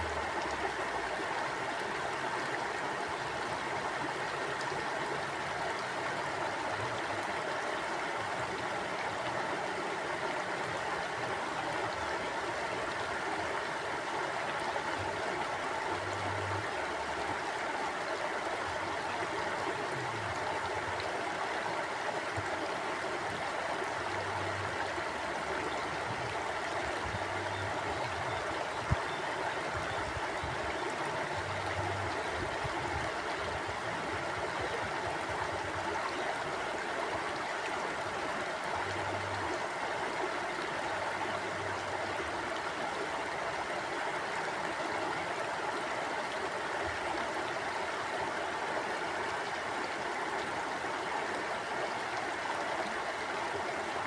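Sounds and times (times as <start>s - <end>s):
river flowing over rocks: 0.0s - 54.0s.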